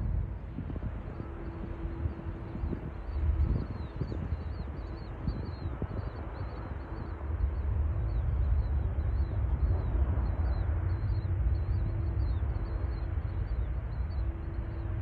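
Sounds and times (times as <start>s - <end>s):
distant jet engine rumble: 0.0s - 15.0s.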